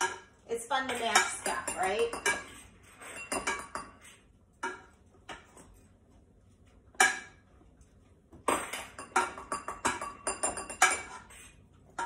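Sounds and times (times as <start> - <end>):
utensils knocking against pot and bowl: 0.0 - 5.6, 6.9 - 7.4, 8.4 - 12.0.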